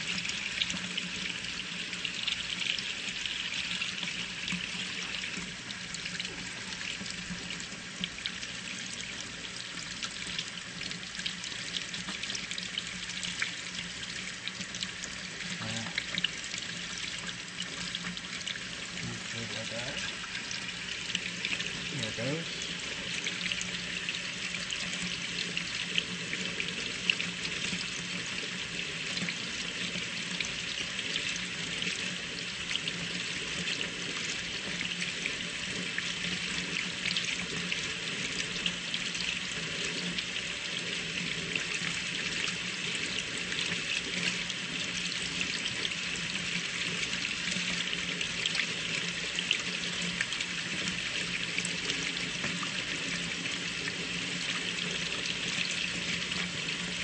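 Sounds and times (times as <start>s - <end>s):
tap water running into sink: 0.0s - 57.0s.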